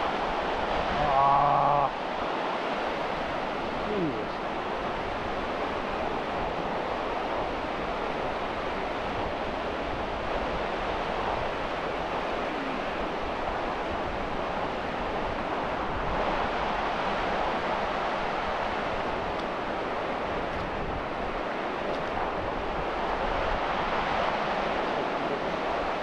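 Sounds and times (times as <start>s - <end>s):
small waves breaking on shore: 0.0s - 26.0s.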